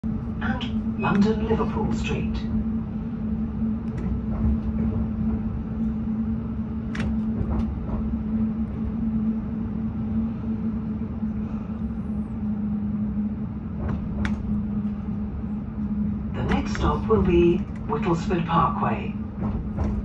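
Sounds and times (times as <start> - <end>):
train hum: 0.0 - 20.0
train wheels rumbling on rails: 0.0 - 20.0.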